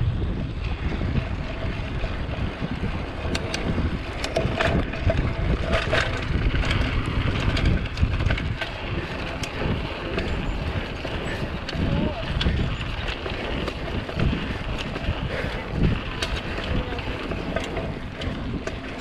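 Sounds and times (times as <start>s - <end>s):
bike clicks and rattles: 0.0s - 19.0s
wind buffeting microphone: 0.0s - 19.0s.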